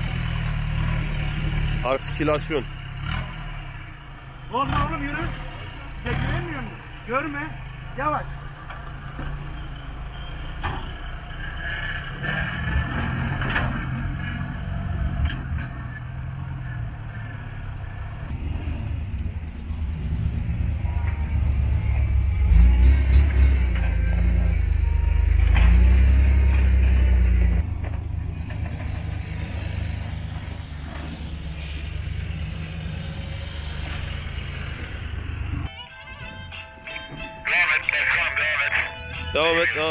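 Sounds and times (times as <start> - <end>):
truck engine running: 0.0 - 35.7.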